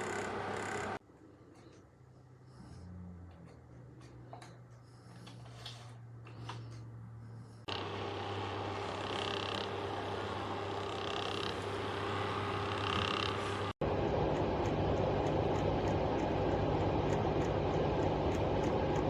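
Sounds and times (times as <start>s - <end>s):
fan heater whirring: 0.0s - 19.0s.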